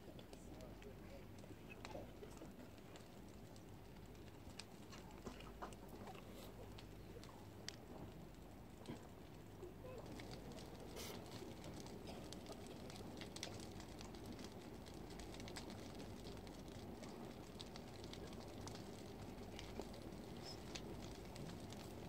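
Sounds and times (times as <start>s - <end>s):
burning wood crackling: 0.0s - 22.0s
fire low rumble: 0.0s - 22.0s.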